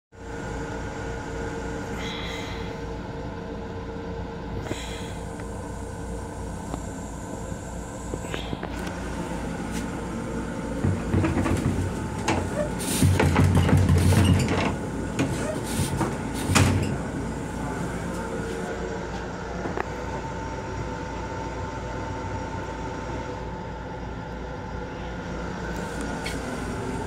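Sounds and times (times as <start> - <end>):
railcar rumble and hum: 0.1 - 27.0.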